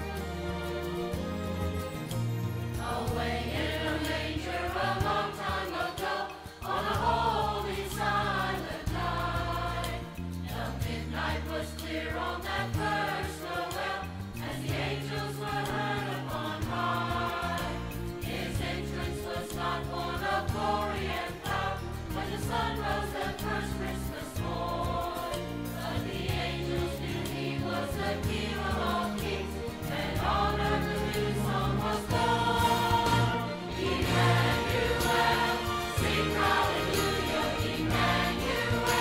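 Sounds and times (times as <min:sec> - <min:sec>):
mixed choir singing: 0:02.7 - 0:39.0.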